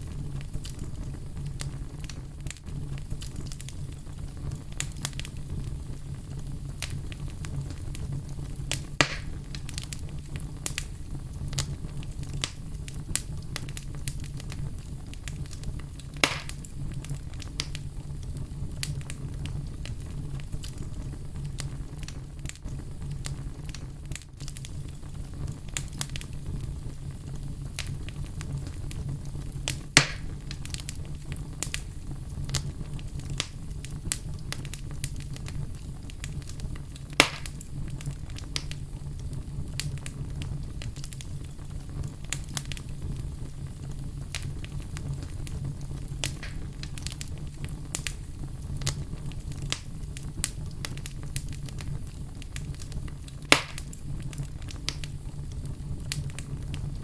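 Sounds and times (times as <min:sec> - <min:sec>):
fire crackling: 0:00.0 - 0:57.0
loud fire pops: 0:00.0 - 0:57.0
low rumble of fire: 0:00.0 - 0:57.0.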